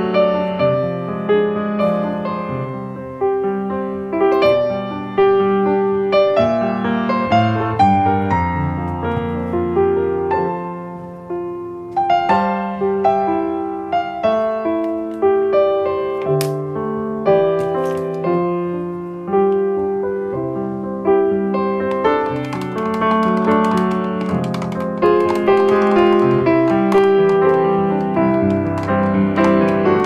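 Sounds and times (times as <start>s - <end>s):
slow piano music: 0.0s - 30.0s.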